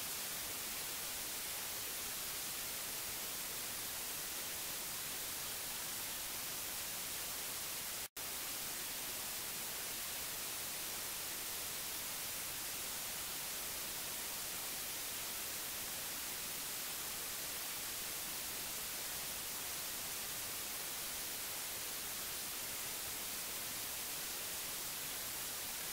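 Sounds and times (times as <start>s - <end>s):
television static hiss: 0.0s - 25.9s.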